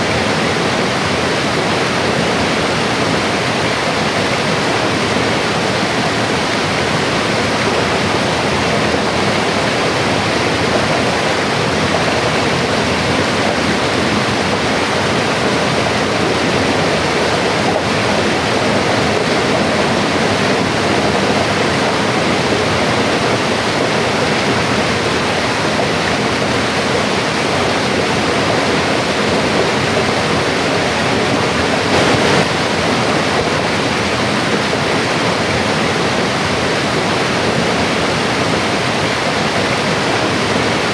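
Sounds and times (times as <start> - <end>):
river rushing over rocks: 0.0 - 40.9.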